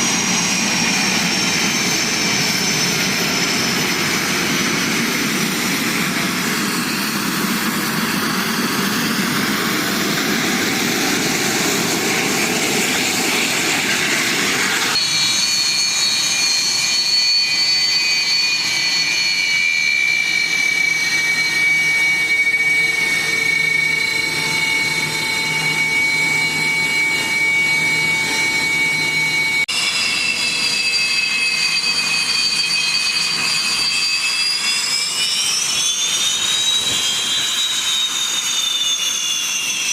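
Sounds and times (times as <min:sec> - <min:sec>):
high turbine whine: 0:00.0 - 0:39.9
jet engine rushing: 0:00.0 - 0:39.9.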